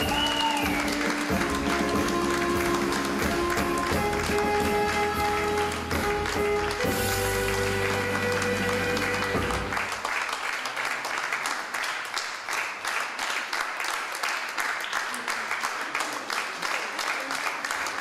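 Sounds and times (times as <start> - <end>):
audience applause: 0.0 - 18.0.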